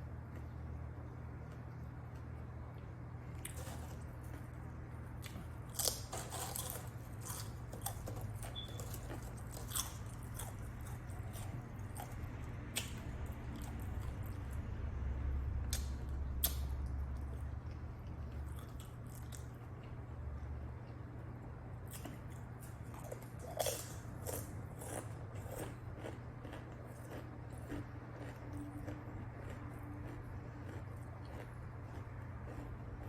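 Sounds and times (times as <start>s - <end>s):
low hum: 0.0s - 33.0s
chewing and biting sandwich: 1.4s - 14.6s, 15.6s - 20.1s, 21.8s - 33.0s.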